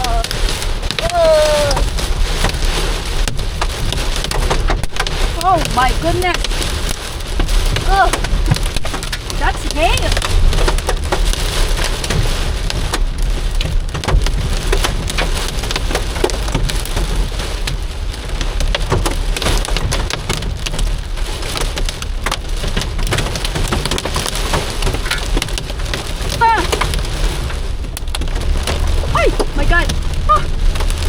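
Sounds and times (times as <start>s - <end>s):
storm noise: 0.0s - 18.1s, 22.8s - 31.0s
hail rattling on a car roof: 0.0s - 31.0s
low road rumble: 0.0s - 31.0s.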